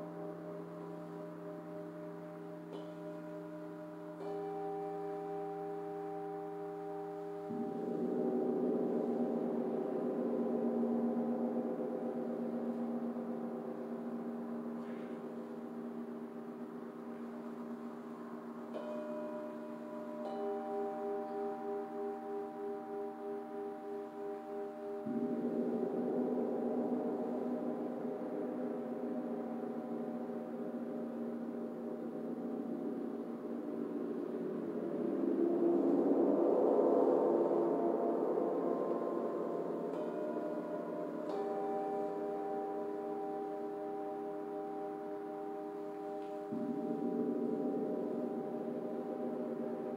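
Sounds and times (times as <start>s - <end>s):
hanging gongs ringing: 0.0s - 49.9s.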